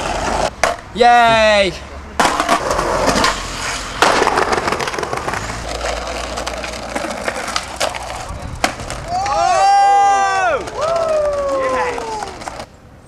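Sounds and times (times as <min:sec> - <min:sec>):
skateboard wheels rolling on brick: 0:00.0 - 0:00.8, 0:02.2 - 0:12.8
skateboard clack: 0:00.0 - 0:01.4, 0:02.2 - 0:12.8.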